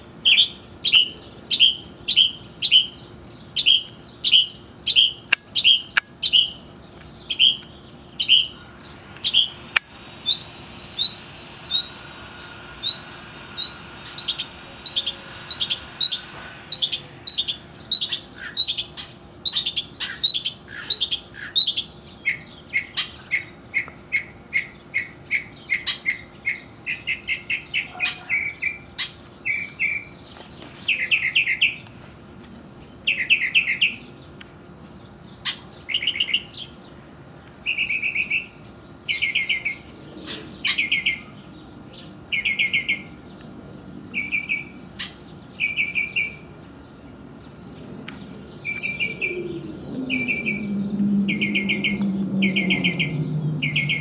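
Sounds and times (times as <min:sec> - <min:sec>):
songbird chirping: 0:00.2 - 0:54.0.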